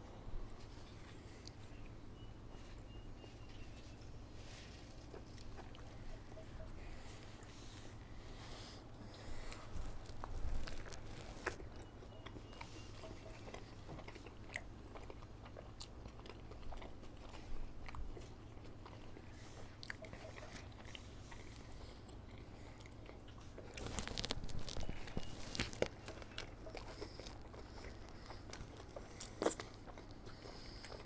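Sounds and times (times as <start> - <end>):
steady low hum: 0.0 - 31.0
person chewing food: 0.4 - 31.0
mouth clicks and crunches: 3.3 - 8.0, 9.0 - 31.0.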